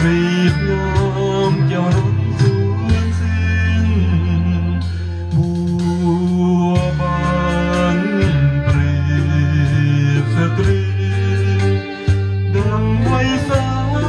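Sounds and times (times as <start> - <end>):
karaoke backing track with bass: 0.0 - 14.0.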